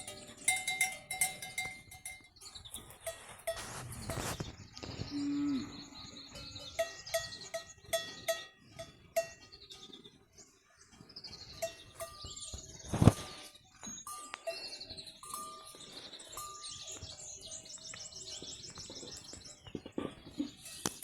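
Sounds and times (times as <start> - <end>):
birds chirping: 0.0 - 21.0
livestock bells clanking: 0.0 - 21.0.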